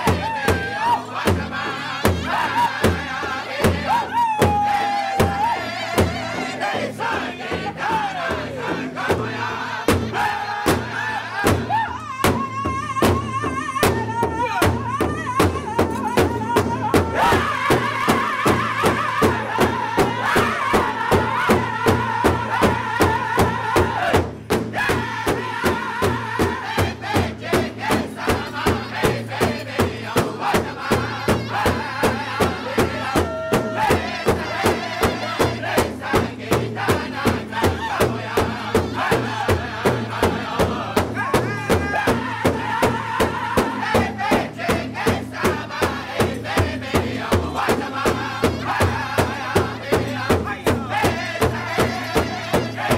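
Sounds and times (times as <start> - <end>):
high-pitched group singing: 0.0 - 52.9
large hide drum beating: 0.0 - 52.9.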